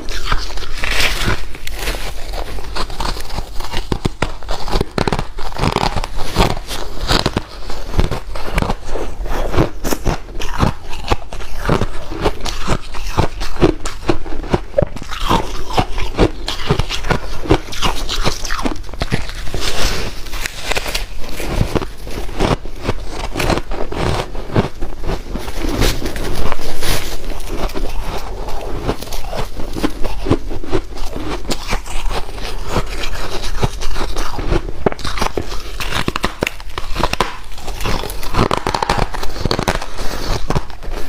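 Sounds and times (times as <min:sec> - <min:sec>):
ice being chewed: 0:00.0 - 0:41.0.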